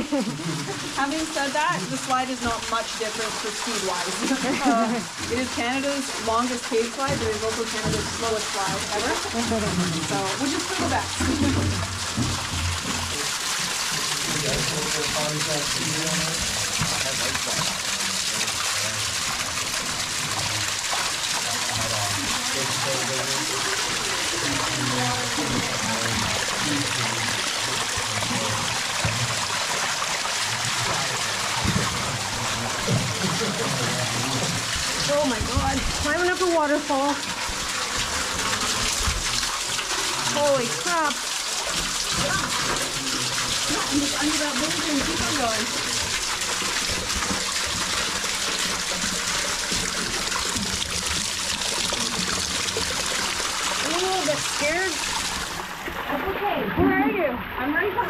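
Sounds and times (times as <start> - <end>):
waterfall splashing onto rock: 0.0 - 58.0.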